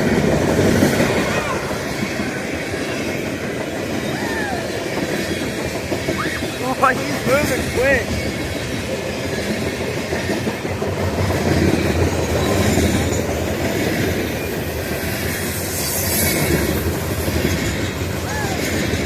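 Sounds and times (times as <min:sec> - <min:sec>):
freight train wheels clattering: 0:00.0 - 0:19.0.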